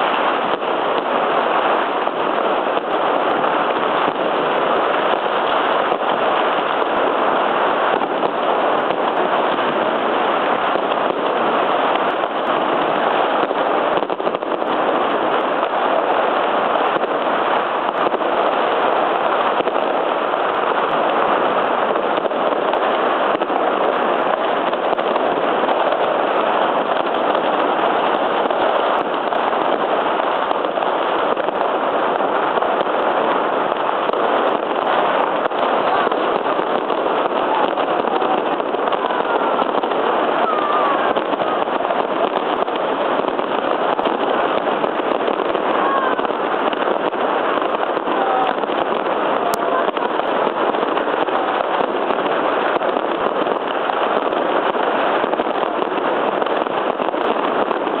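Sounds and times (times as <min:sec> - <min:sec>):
fireworks popping and crackling: 0:00.0 - 0:58.0.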